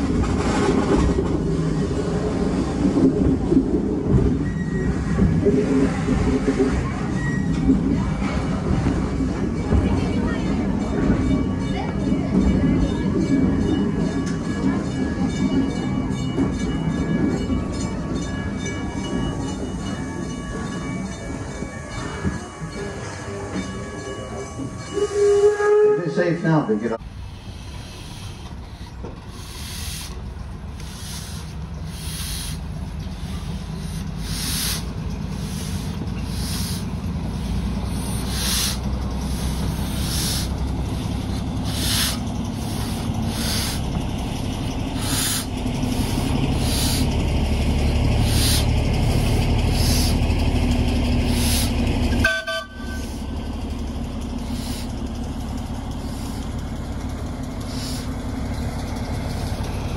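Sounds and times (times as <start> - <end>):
low rumble: 0.0 - 24.9, 27.0 - 59.9
steam locomotive exhaust chuffs: 0.0 - 26.3, 27.0 - 59.9.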